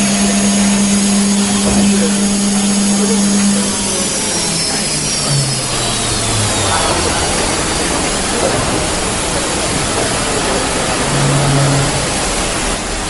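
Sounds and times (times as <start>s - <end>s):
router machine running: 0.0s - 13.0s.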